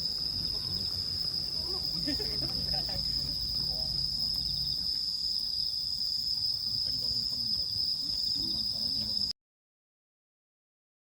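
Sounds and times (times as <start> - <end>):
insects trilling: 0.0 - 9.3.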